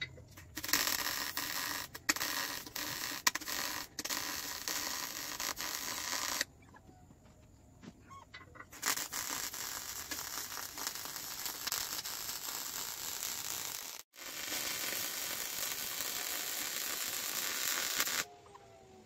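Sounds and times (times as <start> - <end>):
welding arc crackling and sizzling: 0.0 - 6.5, 8.7 - 18.3.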